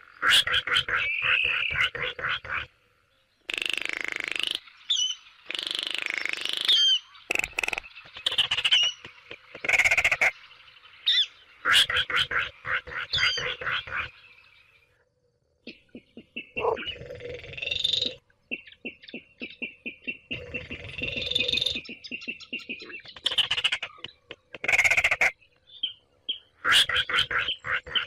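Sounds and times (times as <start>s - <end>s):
bird dry rapid rattling calls: 0.2s - 2.7s, 3.5s - 14.3s, 15.7s - 25.4s, 26.6s - 28.0s.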